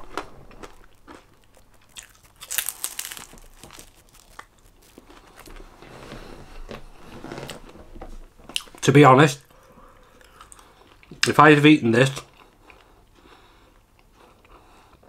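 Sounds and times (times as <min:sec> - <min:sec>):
man chewing food: 0:00.0 - 0:07.6, 0:09.5 - 0:11.3, 0:12.3 - 0:15.0.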